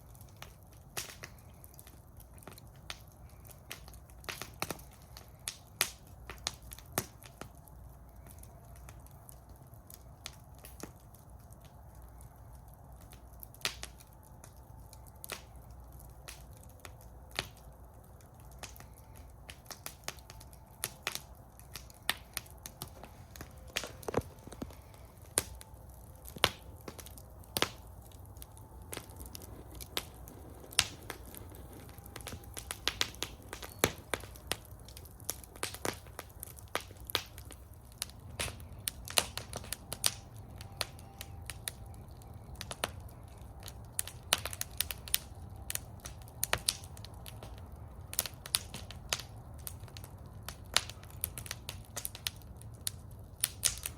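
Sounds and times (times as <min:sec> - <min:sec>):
low rumble of flames: 0:00.0 - 0:53.9
wood fire crackling and popping: 0:00.0 - 0:53.9.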